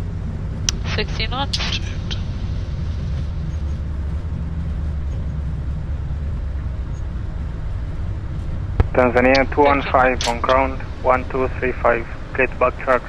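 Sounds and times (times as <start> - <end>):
jet engines and wheels rumbling: 0.0 - 13.0.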